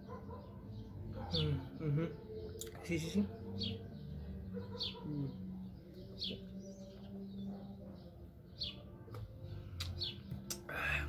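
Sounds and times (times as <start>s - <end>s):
small bird chirping: 0.0s - 8.9s.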